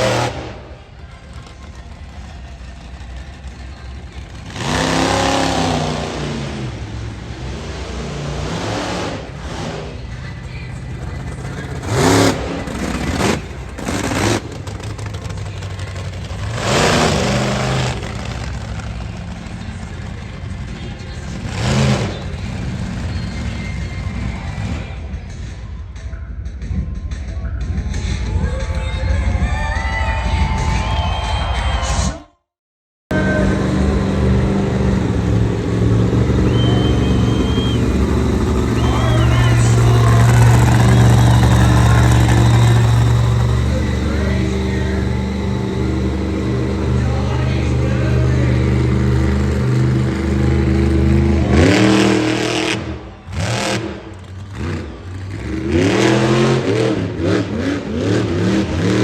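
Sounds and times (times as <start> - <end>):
monster truck engine revving: 0.0 - 25.5, 33.1 - 59.0.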